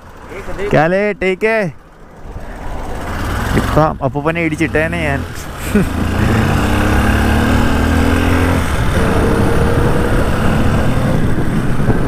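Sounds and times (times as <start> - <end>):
motorcycle engine accelerating: 1.8 - 12.0.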